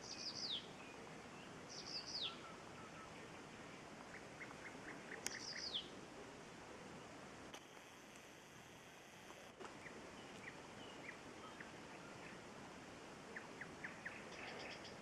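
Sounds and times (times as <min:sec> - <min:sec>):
faint songbirds singing: 0:00.0 - 0:07.4, 0:09.6 - 0:15.0
steady outdoor hiss: 0:00.0 - 0:15.0.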